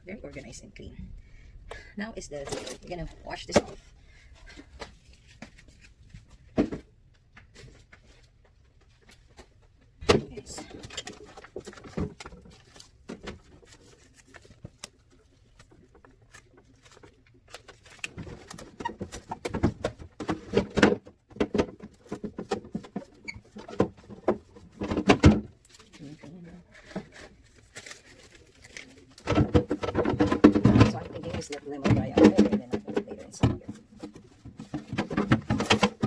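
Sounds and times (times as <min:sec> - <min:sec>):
objects knocking and rattling: 0:02.4 - 0:36.0.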